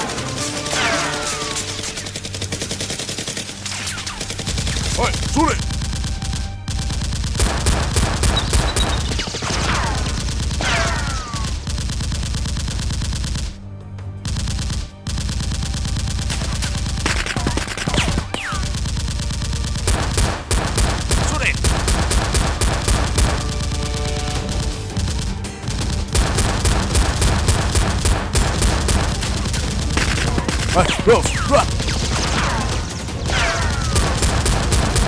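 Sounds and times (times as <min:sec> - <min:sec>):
rapid automatic gunfire: 0:00.0 - 0:13.6, 0:14.3 - 0:35.0.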